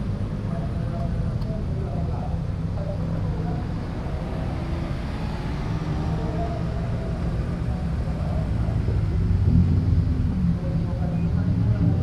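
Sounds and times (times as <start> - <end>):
car engines droning at low revs: 0.0 - 12.0.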